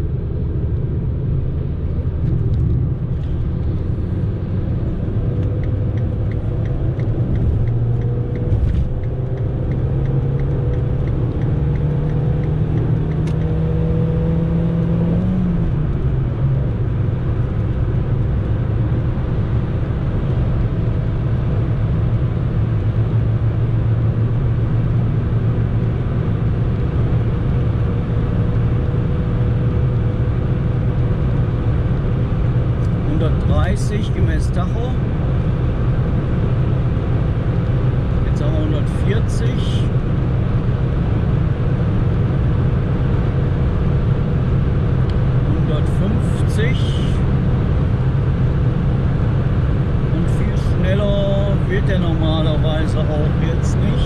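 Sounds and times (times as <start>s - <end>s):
road noise: 0.0s - 54.0s
car engine accelerating: 0.5s - 54.0s.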